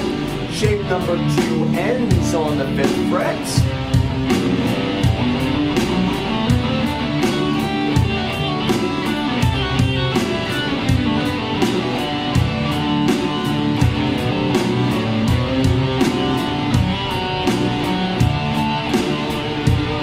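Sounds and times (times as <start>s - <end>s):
backing track with drum beat: 0.0s - 20.0s
electric guitar playing single notes: 0.0s - 20.0s.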